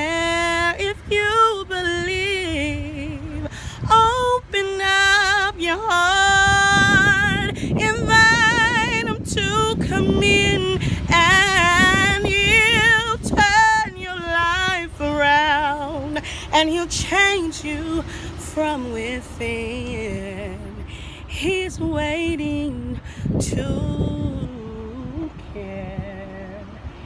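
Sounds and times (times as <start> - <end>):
woman singing gospel: 0.0 - 27.0.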